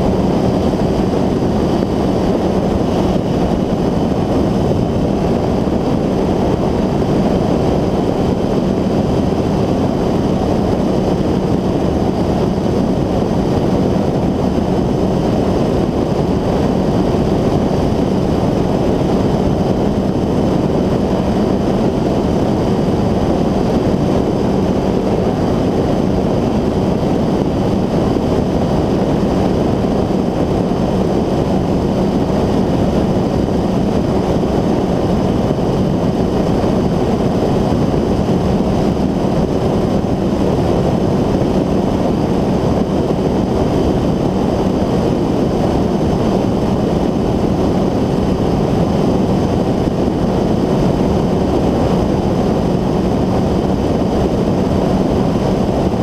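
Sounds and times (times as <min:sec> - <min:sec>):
engine and propeller drone: 0:00.0 - 0:56.0.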